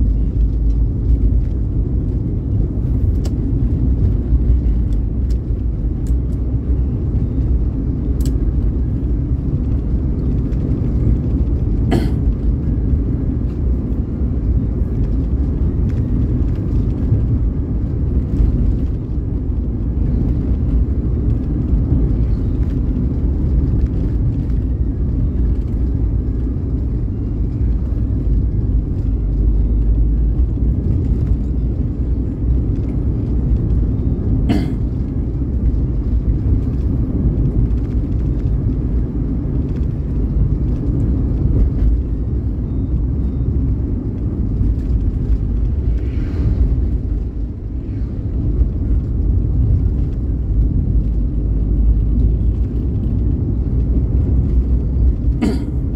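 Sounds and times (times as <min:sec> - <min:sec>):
vehicle road rumble: 0:00.0 - 0:55.9.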